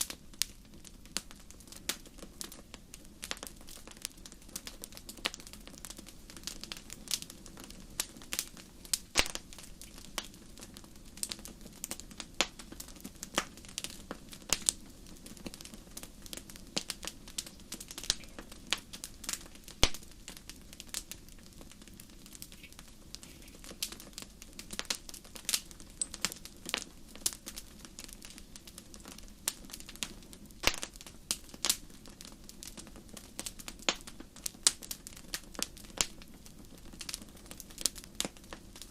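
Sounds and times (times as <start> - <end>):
low steady hiss: 0.0 - 38.9
wood fire crackling and popping: 0.0 - 38.9.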